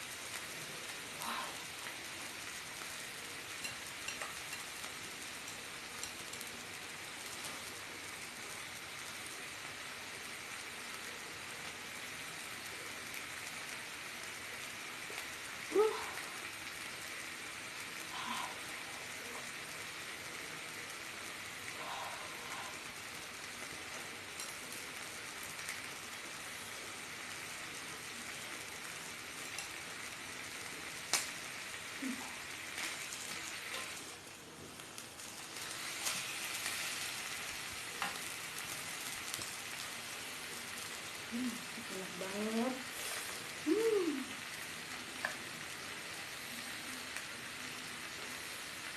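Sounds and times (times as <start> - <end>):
meat sizzling in a pan: 0.0 - 48.9.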